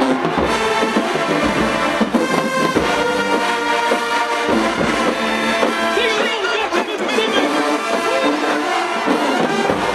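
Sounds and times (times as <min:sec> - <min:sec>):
brass section holding chords: 0:00.0 - 0:09.9
drum hits: 0:00.0 - 0:09.9
marching band playing: 0:00.0 - 0:09.9.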